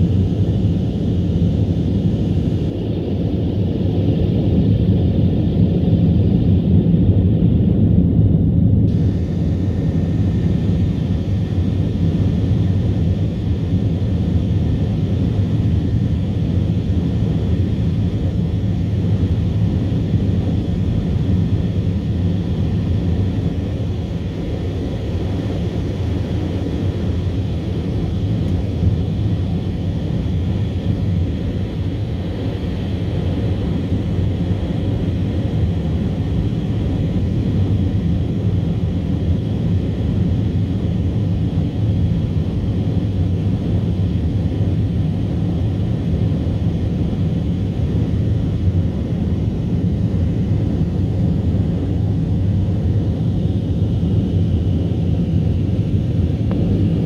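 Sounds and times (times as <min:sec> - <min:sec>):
jet engine drone: 0:00.0 - 0:57.0
cabin airflow: 0:07.4 - 0:57.0.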